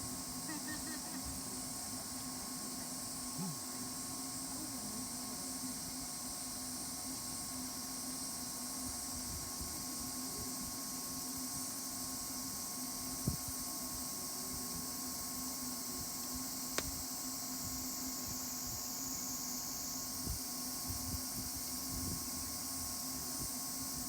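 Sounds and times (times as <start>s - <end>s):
campfire hissing: 0.0s - 24.0s.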